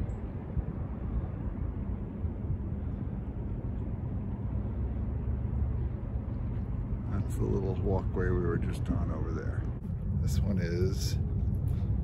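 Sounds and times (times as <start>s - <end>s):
faint droning hum: 0.0s - 12.0s
low mechanical rumble: 0.0s - 12.0s.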